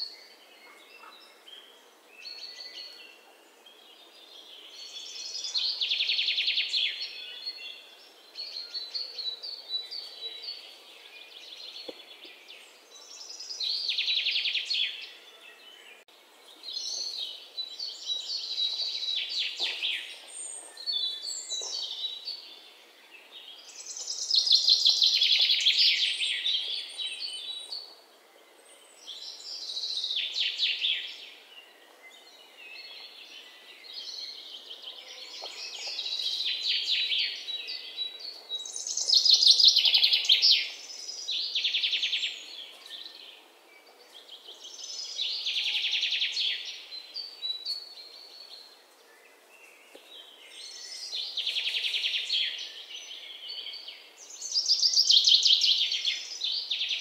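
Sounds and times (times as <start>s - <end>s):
faint outdoor background: 0.0s - 57.0s.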